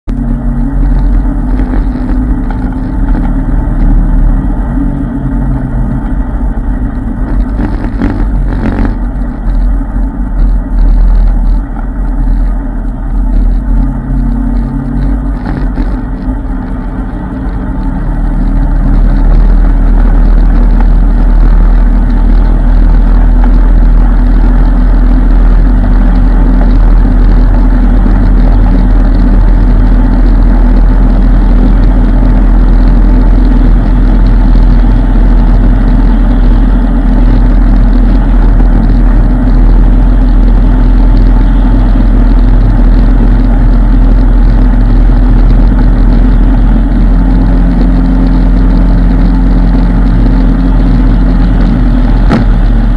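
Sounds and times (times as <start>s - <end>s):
atv engine rumbling: 0.0s - 52.9s.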